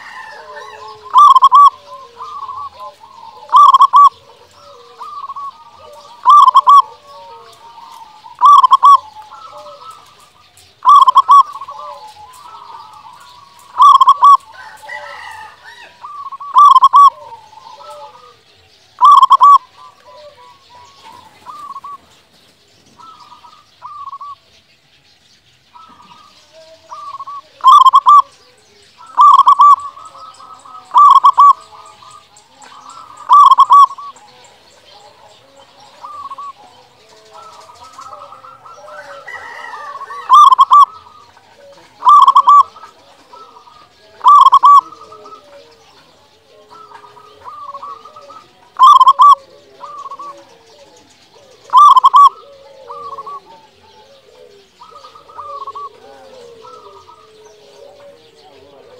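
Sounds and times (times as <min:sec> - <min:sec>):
dove cooing: 0:00.0 - 0:24.5, 0:25.7 - 0:58.9.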